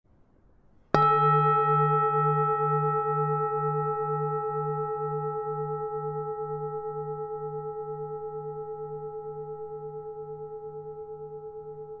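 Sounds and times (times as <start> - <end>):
singing bowl ringing: 0.9 - 12.0.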